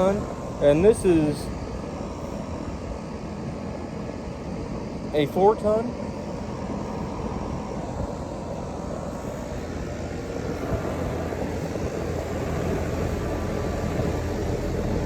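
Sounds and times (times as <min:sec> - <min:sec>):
condenser fan air rush: 0:00.0 - 0:15.0
low compressor hum: 0:00.0 - 0:15.0.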